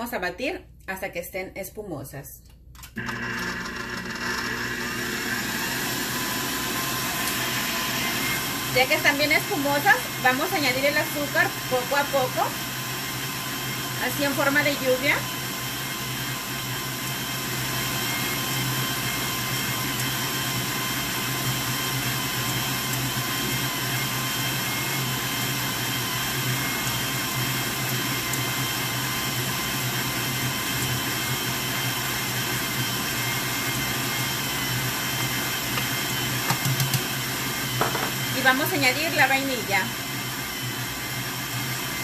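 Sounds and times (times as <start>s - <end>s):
stand mixer whisking: 3.0s - 42.0s.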